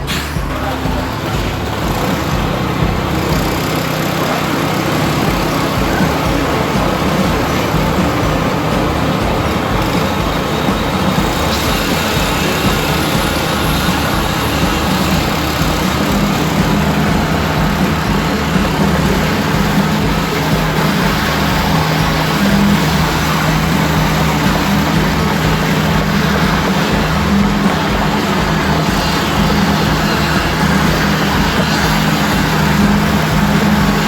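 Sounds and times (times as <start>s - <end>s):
machinery engine running: 0.0s - 34.0s.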